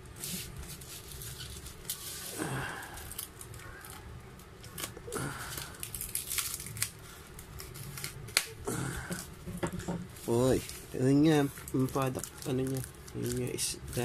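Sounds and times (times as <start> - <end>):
plastic crinkling: 0.2 - 14.0.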